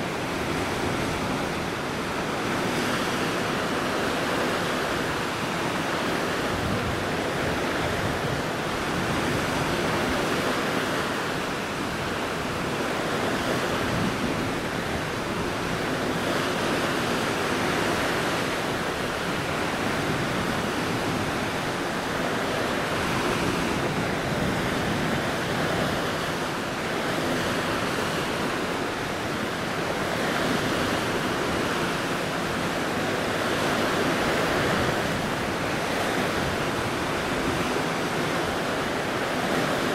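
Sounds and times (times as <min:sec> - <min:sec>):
sea waves: 0:00.0 - 0:39.9
wind: 0:00.0 - 0:39.9.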